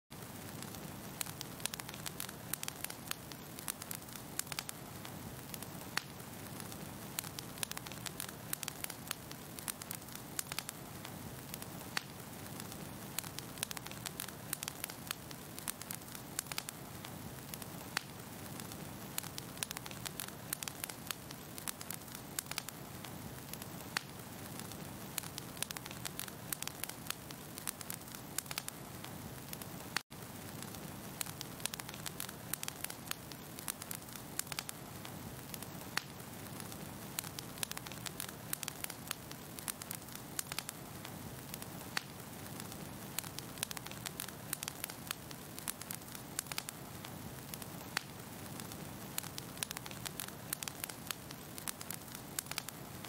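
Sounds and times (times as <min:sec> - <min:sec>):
fire crackling in a fireplace: 0:00.1 - 0:53.0.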